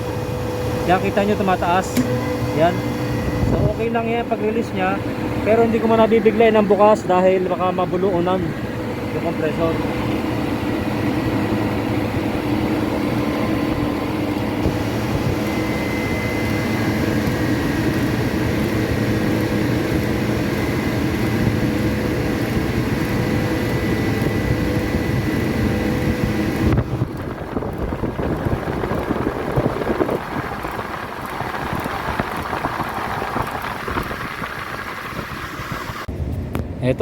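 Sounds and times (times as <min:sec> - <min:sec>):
compressor humming: 0:00.0 - 0:37.0.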